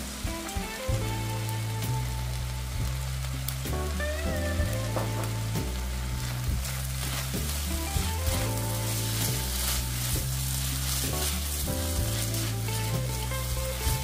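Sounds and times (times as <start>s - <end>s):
background music with bass: 0.0s - 14.0s
stir-fry sizzling in a pan: 0.0s - 14.0s.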